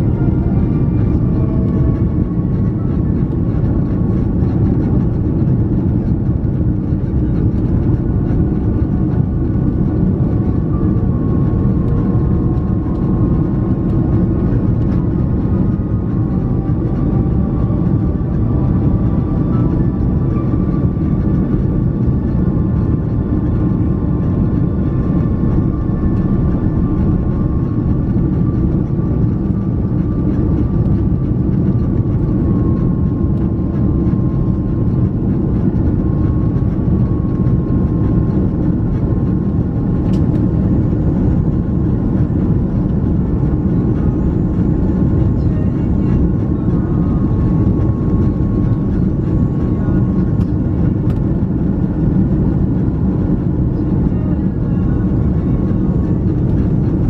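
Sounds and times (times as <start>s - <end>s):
faint held whine: 0.0s - 57.0s
jet engine roar in cabin: 0.0s - 57.0s.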